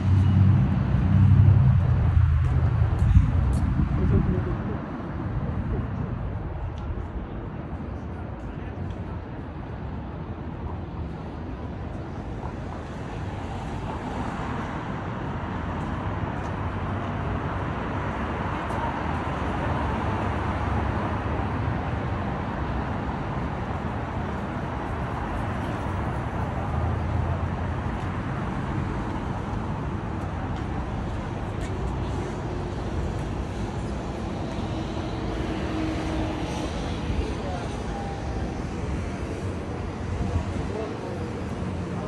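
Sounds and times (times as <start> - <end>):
passing car engines and tyres: 0.0 - 7.0, 11.7 - 42.0.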